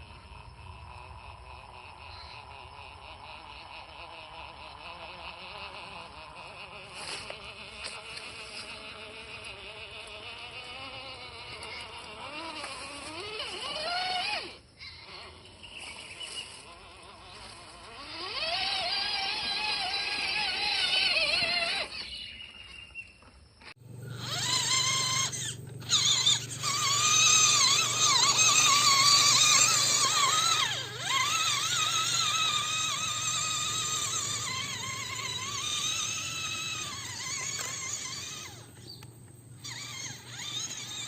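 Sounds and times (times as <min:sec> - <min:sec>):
electric motor whine: 0:00.0 - 0:41.0.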